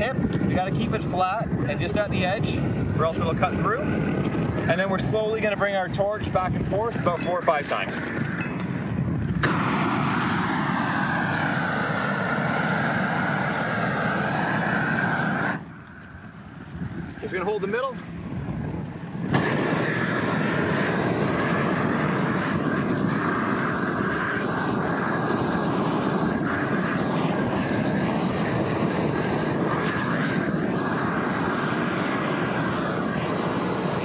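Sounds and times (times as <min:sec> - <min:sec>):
roofing torch flame rushing: 0:00.0 - 0:34.0.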